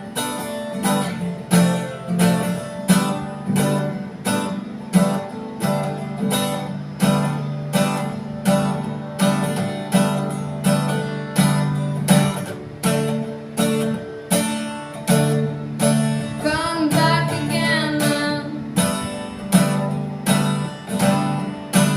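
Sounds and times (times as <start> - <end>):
acoustic guitar strumming chords: 0.0 - 21.9.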